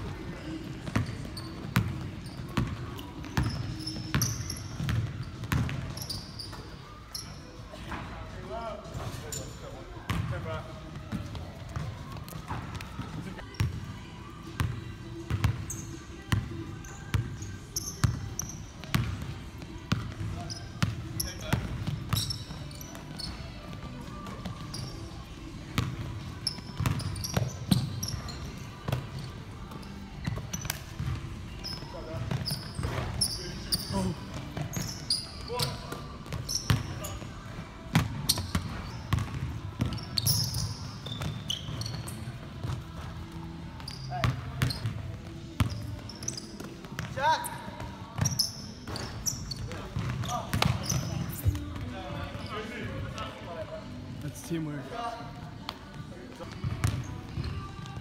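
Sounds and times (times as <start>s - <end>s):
sneaker squeaks: 0.4s - 8.1s, 8.8s - 13.9s, 14.6s - 54.3s, 55.6s - 58.0s.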